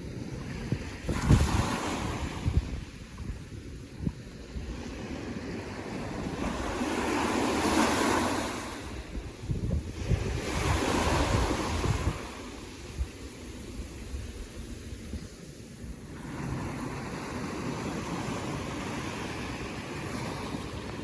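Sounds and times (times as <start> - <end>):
ocean waves breaking: 0.0 - 21.0
wind buffeting microphone: 0.0 - 21.0.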